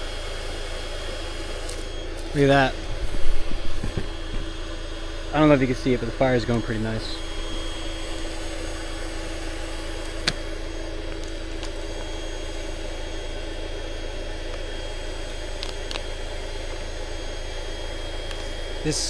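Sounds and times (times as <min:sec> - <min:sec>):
electric air pump running: 0:00.0 - 0:19.0.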